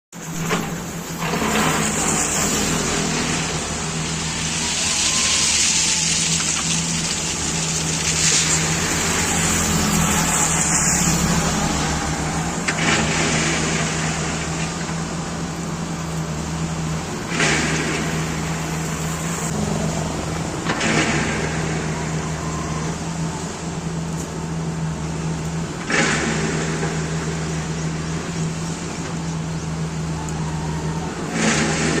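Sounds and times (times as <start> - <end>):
diesel engine running: 0.1 - 32.0
sudden rushing noise: 0.2 - 29.0.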